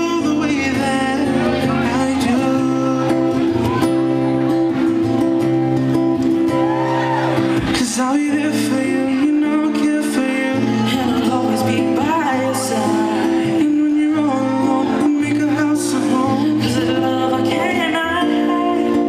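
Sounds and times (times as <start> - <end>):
person singing: 0.0 - 4.1, 7.3 - 19.0
acoustic guitar playing: 0.0 - 19.0.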